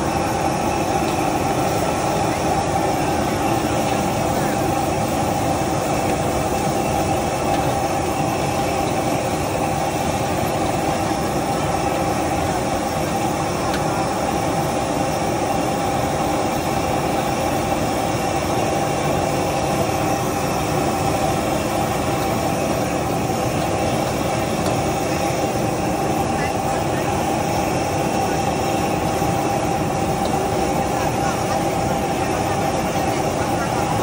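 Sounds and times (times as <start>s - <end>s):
constant hum: 0.0s - 34.0s
gas burner rushing: 0.0s - 34.0s.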